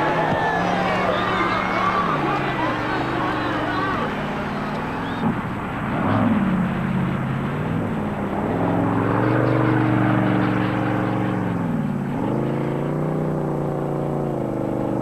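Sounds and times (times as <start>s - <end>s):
boat engine revving: 0.0s - 15.0s.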